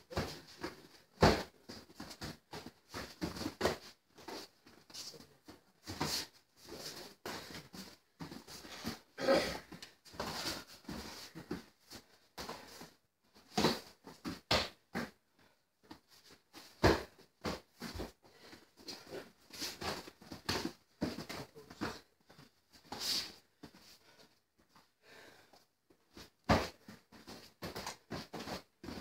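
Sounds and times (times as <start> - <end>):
feet shuffling on foam mats: 0.0 - 29.0.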